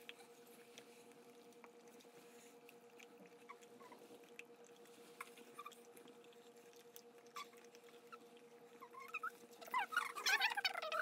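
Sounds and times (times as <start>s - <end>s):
puppy chewing wet clicks: 0.0s - 11.0s
room tone hum: 0.0s - 11.0s.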